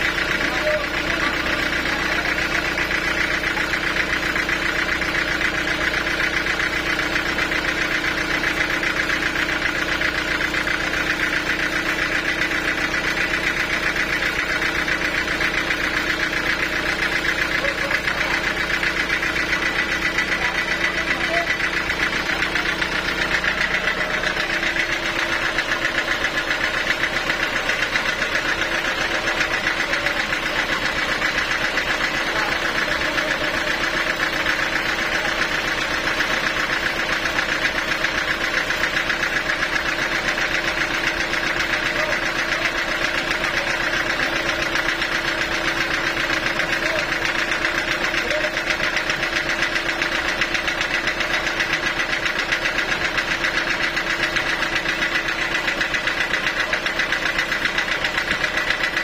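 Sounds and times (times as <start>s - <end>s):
portable sawmill running: 0.0s - 59.0s.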